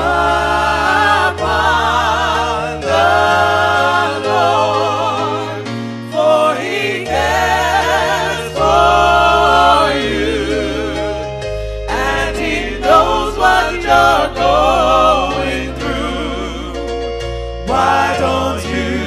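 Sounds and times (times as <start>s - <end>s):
voices singing with vibrato: 0.0s - 16.9s, 17.6s - 19.0s
held bass notes: 0.0s - 19.0s.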